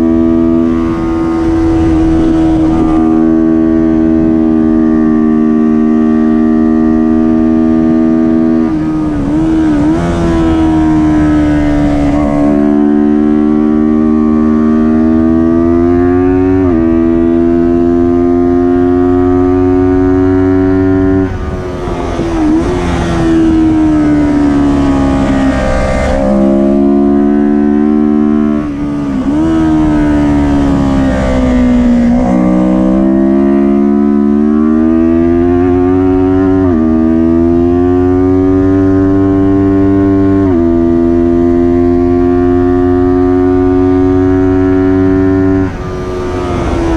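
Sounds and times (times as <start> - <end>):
motorcycle engine revving and shifting: 0.0 - 46.9.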